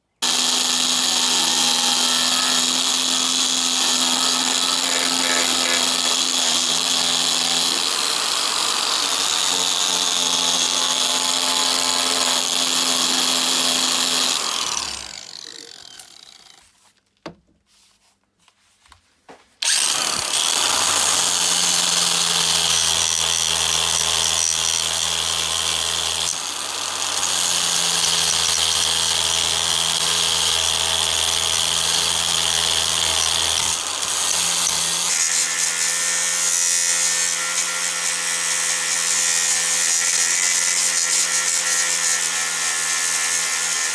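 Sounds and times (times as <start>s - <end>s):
power tool grinding steel: 0.2s - 16.6s, 19.6s - 43.9s.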